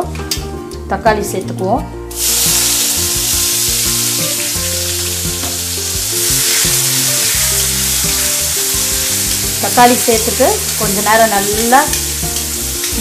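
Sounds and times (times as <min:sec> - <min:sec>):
tomatoes sizzling in hot oil: 0:02.1 - 0:13.0.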